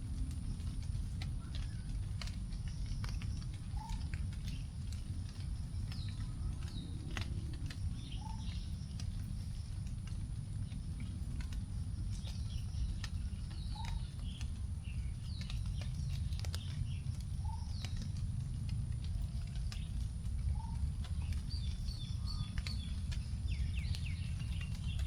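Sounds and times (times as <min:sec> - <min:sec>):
raindrops ticking on leaves: 0:00.0 - 0:25.0
birds chirping: 0:00.5 - 0:25.0.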